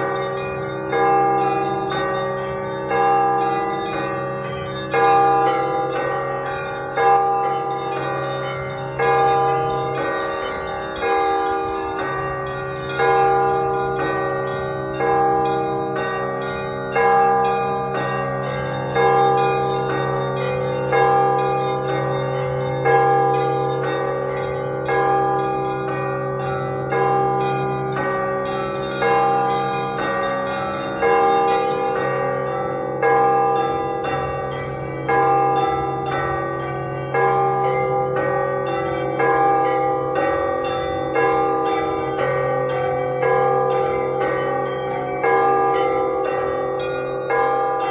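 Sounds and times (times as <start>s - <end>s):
small bells chiming: 0.0s - 47.9s.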